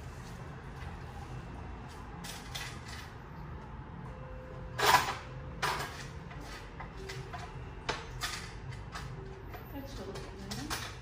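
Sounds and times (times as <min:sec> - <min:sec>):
dental equipment humming: 0:00.0 - 0:11.0.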